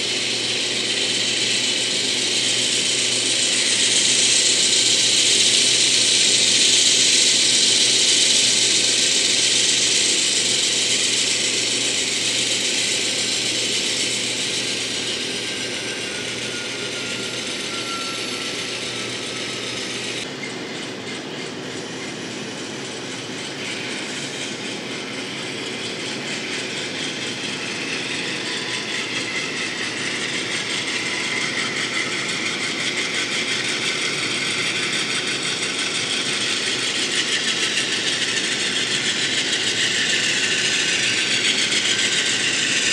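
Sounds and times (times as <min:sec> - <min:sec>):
model train motors whirring: 0:00.0 - 0:42.9.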